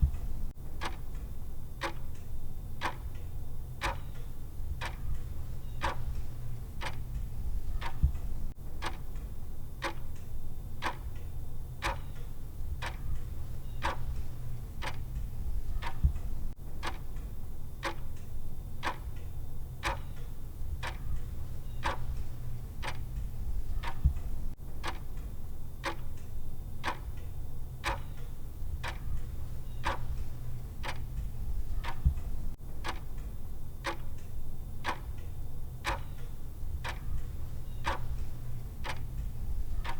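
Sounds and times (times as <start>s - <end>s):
clock ticking: 0.0s - 18.2s, 18.8s - 39.9s
steady low hum: 0.0s - 39.9s.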